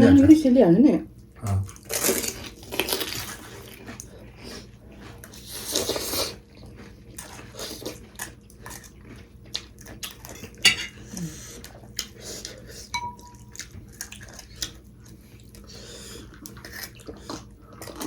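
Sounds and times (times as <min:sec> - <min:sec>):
mouth sounds and chewing: 0:01.2 - 0:18.0.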